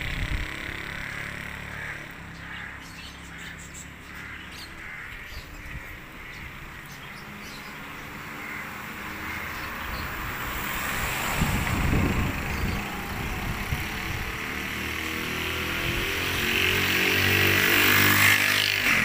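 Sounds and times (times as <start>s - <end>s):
birds calling: 0.1s - 19.0s.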